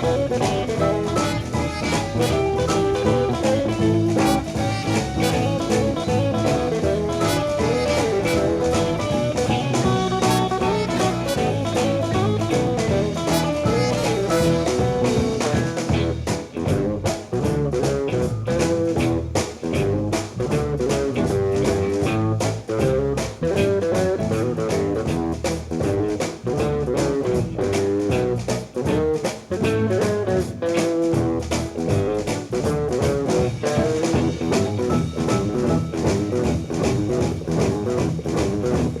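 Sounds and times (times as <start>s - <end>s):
blues-jazz band playing: 0.0s - 39.0s
drum kit: 0.0s - 39.0s
guitar lines: 0.0s - 39.0s.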